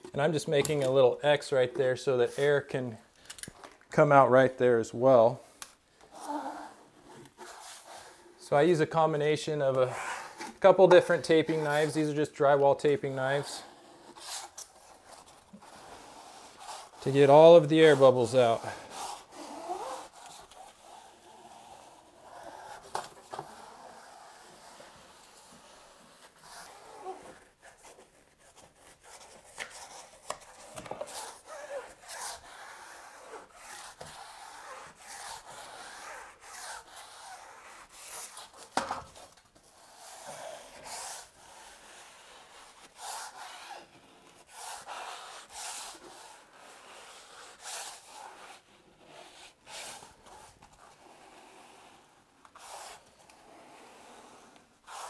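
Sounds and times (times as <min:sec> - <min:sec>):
taping knife scraping membrane: 0:09.8 - 0:12.2, 0:12.8 - 0:55.0.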